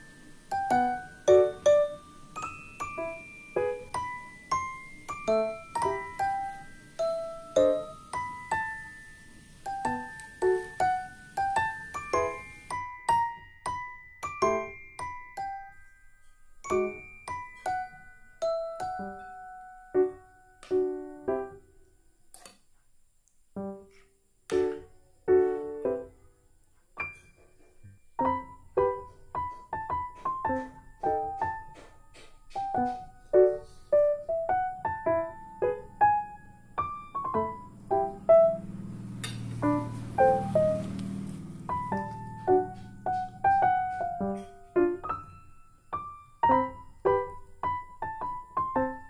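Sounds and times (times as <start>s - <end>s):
piano music: 0.0s - 21.8s, 23.6s - 26.4s, 27.0s - 49.0s.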